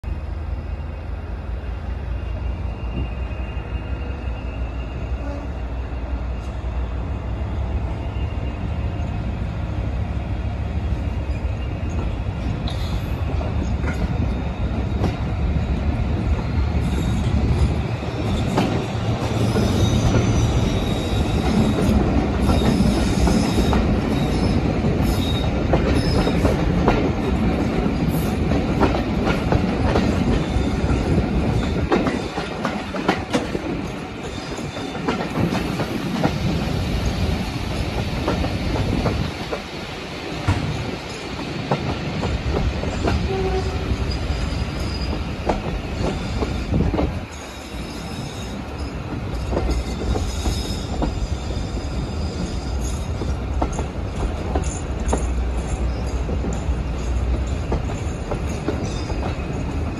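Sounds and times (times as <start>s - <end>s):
wheels clicking on rail joints: 10.8s - 39.7s, 40.4s - 59.9s.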